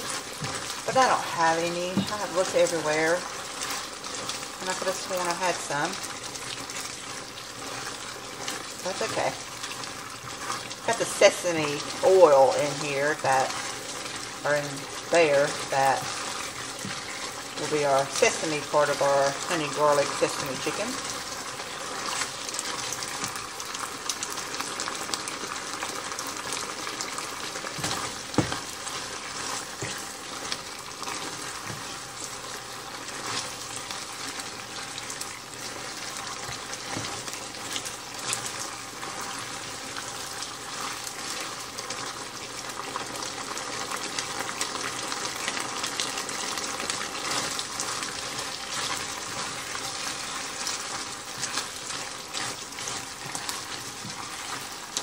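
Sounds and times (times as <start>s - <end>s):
chicken sizzling in a skillet: 0.0s - 55.0s.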